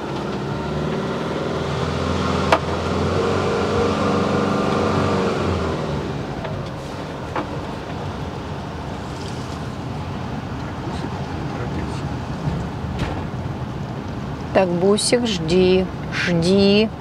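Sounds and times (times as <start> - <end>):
motorhome engine running: 0.0 - 17.0
road noise: 0.0 - 17.0.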